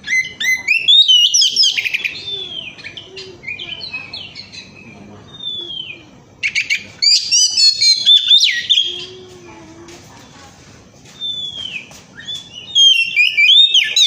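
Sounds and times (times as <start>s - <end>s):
bird singing whistles and trills: 0.0s - 9.2s, 11.2s - 14.0s.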